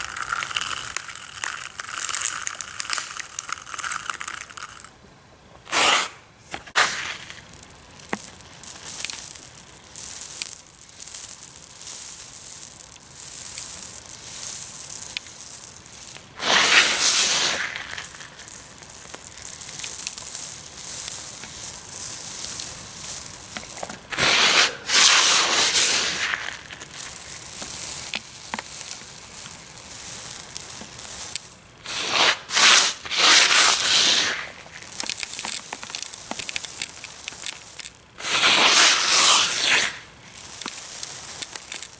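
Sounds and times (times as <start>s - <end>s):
aquarium gravel rattling: 0.0s - 5.0s, 6.7s - 38.9s, 39.7s - 41.9s.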